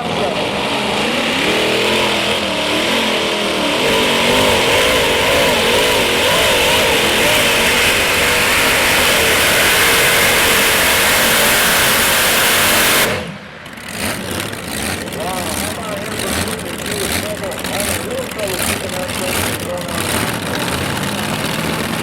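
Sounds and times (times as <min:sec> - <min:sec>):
tractor engine at full power: 0:00.0 - 0:22.0.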